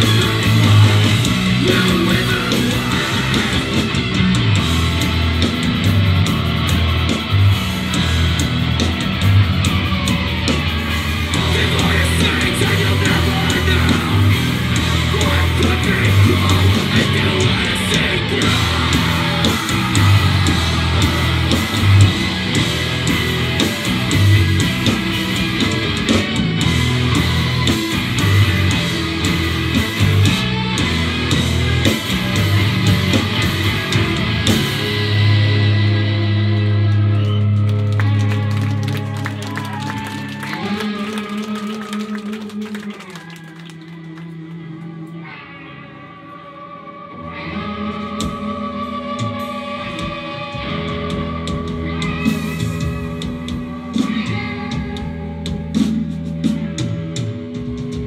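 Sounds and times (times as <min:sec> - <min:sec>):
live rock band: 0:00.0 - 0:58.0.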